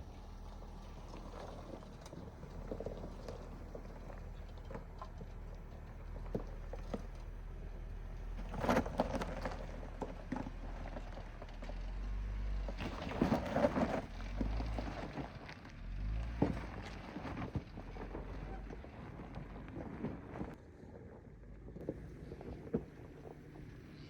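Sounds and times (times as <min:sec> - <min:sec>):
low steady engine rumble: 0:00.0 - 0:24.0.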